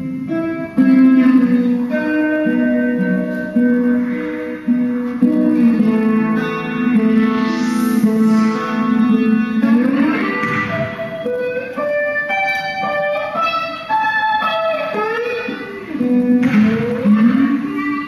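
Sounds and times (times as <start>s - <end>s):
guitar playing sliding notes: 0.0s - 18.0s.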